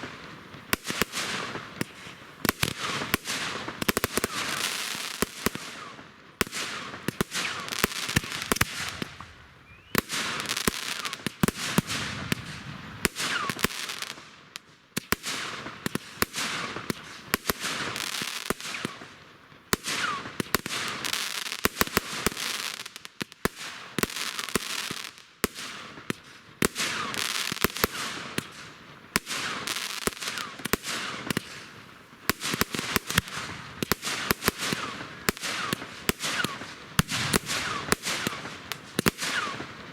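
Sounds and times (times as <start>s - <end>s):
fireworks whistles: 0.0s - 14.2s, 16.3s - 19.1s, 19.8s - 22.9s, 26.6s - 31.7s, 32.3s - 39.9s
fireworks bangs and crackling: 0.0s - 39.9s.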